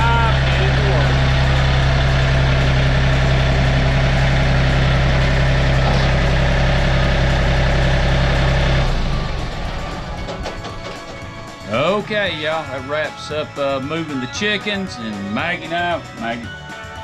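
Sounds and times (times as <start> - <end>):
tractor engine droning: 0.0 - 16.2.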